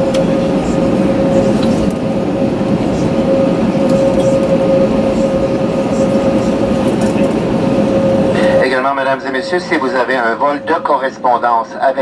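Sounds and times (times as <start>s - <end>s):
jet engines idling rumble: 0.0s - 12.0s
steady engine whine: 0.0s - 12.0s.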